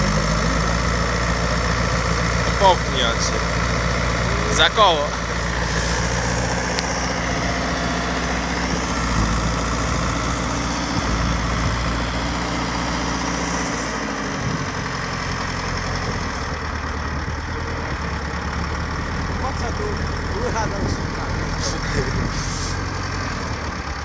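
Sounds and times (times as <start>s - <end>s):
tractor diesel engine running hard: 0.0s - 24.0s.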